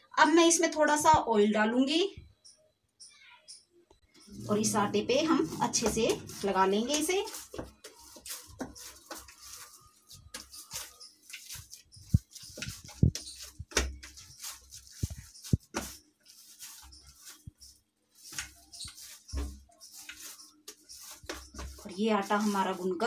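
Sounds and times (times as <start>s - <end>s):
hands kneading dough: 4.3s - 23.0s.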